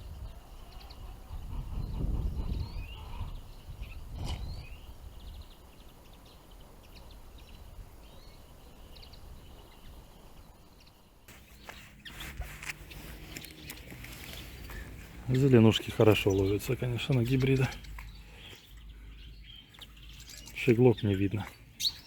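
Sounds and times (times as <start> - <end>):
low wind rumble: 0.0 - 20.1
finches twittering: 0.2 - 22.0.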